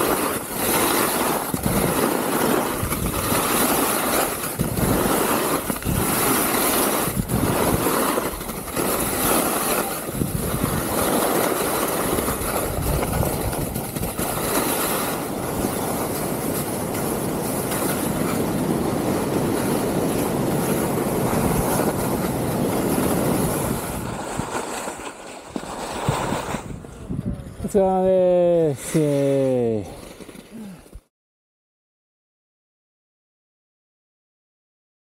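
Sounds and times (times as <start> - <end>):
skis scraping over snow: 0.0 - 27.1, 27.7 - 31.0.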